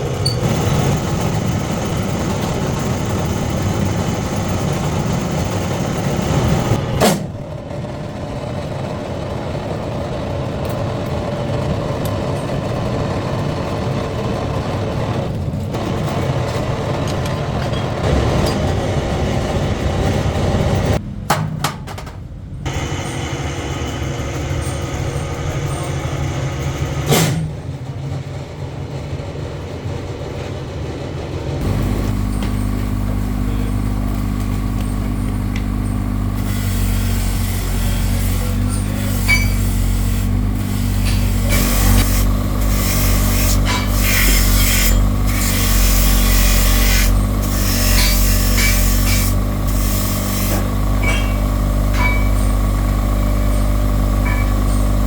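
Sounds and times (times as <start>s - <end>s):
workshop machinery humming: 0.0s - 55.0s.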